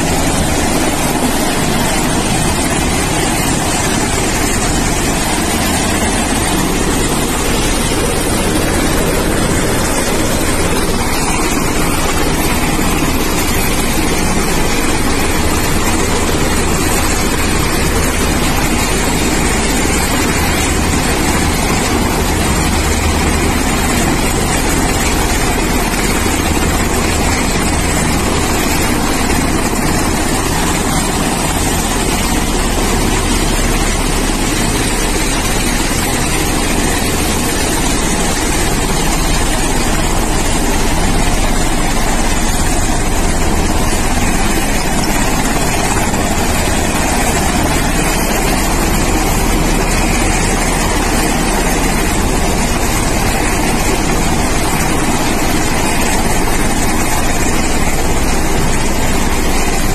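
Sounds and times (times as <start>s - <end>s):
helicopter turbine engines running: 0.0s - 59.9s.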